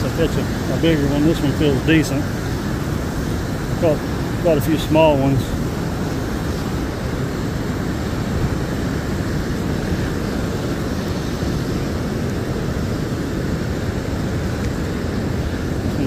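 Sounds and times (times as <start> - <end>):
river whitewater rushing: 0.0 - 16.0.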